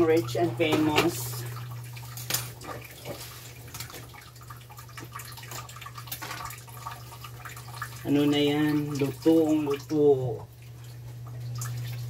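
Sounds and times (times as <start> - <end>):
soft bubbling and crackles: 0.0 - 12.0
steady low hum: 0.0 - 12.0.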